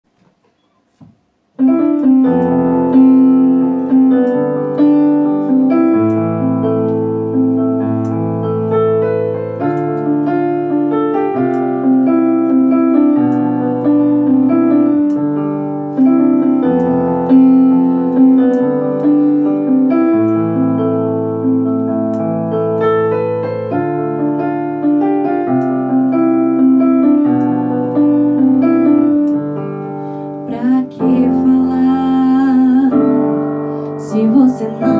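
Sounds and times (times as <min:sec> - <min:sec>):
solo piano ballad: 0:00.2 - 0:34.9.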